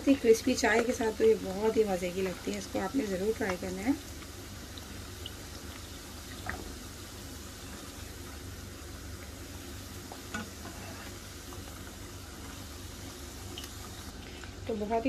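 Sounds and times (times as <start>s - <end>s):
hot oil bubbling and sizzling: 0.0s - 15.0s.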